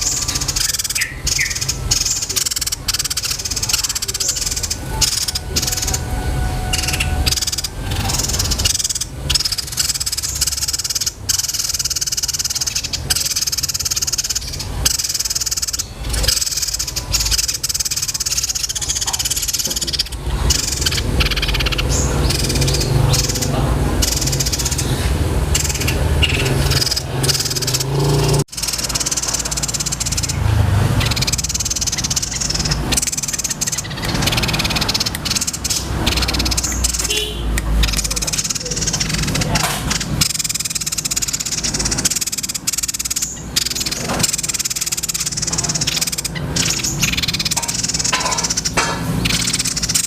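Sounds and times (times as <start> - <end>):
songbird trilling: 0.0 - 50.0.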